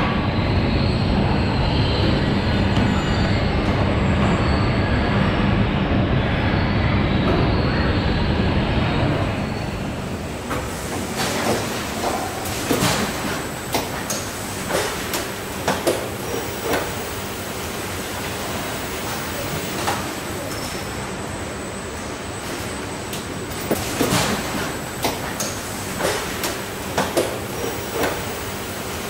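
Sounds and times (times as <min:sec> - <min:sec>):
assembly line machinery rumble: 0:00.0 - 0:29.0.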